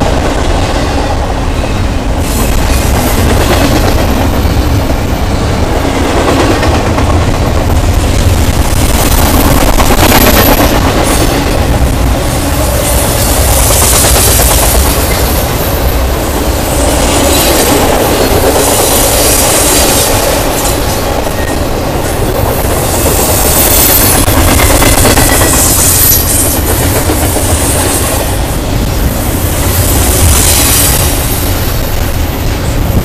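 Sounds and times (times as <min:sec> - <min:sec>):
freight train wheels rumbling: 0:00.0 - 0:33.0.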